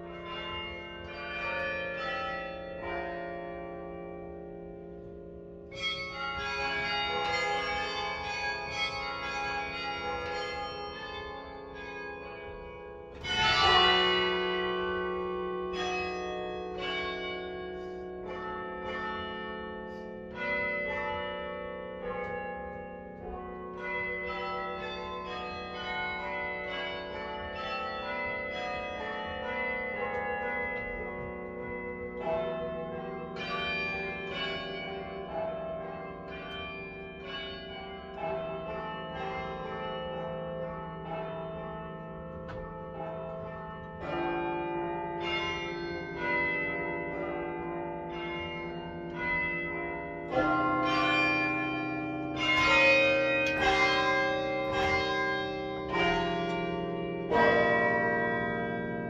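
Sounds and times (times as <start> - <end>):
carillon bells ringing: 0.0 - 5.0, 5.6 - 59.0
loud low bell: 0.0 - 59.0.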